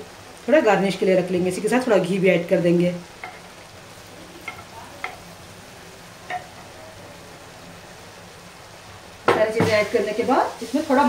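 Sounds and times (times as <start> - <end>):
rice sizzling in syrup: 0.0 - 11.0.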